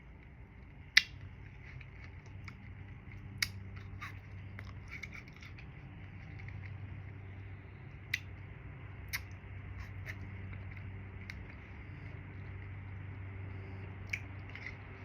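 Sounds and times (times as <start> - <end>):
biting and chewing frozen fruit bar: 0.1 - 15.0.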